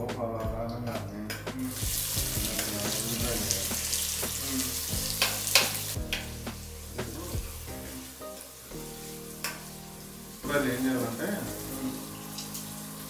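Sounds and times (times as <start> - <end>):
onions sizzling in hot oil: 1.6 - 13.0.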